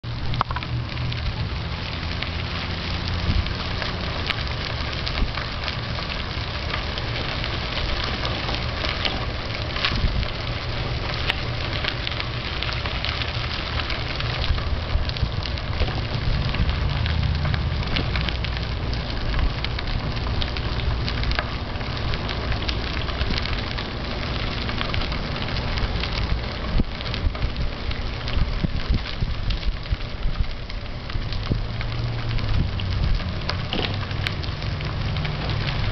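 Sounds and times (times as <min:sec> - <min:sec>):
bicycle tyres rolling on gravel: 0:00.0 - 0:35.9.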